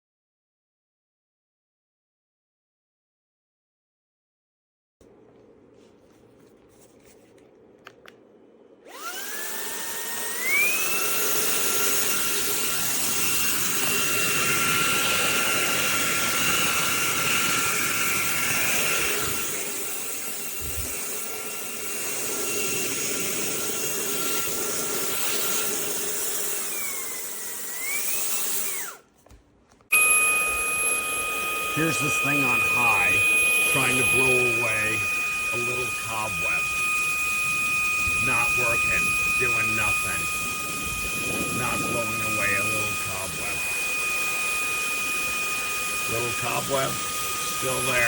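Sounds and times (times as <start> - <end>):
handheld vacuum motor whine: 8.8 - 29.1, 29.8 - 48.0.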